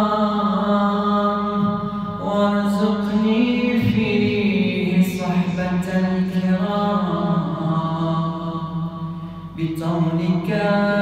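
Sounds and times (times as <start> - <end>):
man chanting unaccompanied: 0.0 - 11.0.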